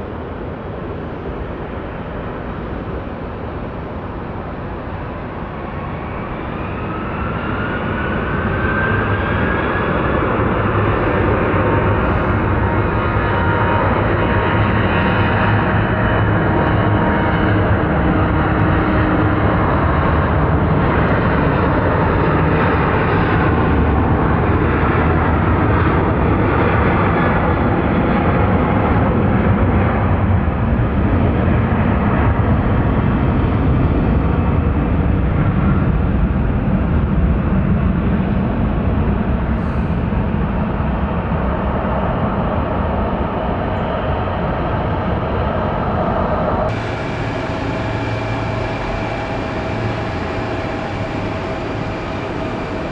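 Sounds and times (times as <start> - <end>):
jet engines roaring: 0.0 - 31.8, 41.6 - 52.9.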